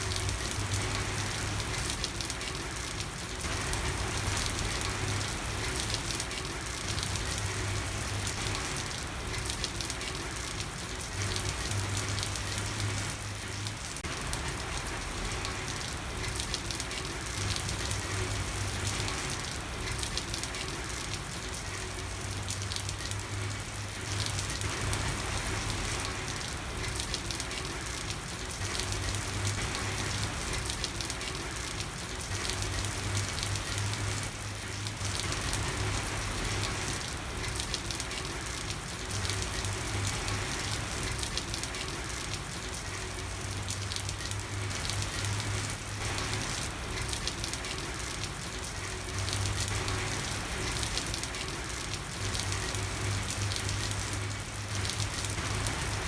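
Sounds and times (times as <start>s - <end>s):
rain on a street: 0.0s - 56.0s.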